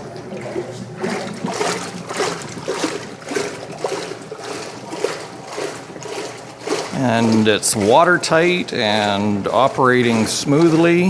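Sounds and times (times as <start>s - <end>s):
water sloshing in washer tub: 0.0s - 11.0s.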